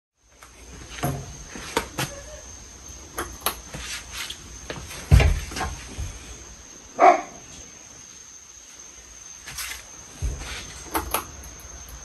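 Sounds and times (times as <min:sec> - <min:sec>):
ceiling fan whine: 0:00.2 - 0:12.0.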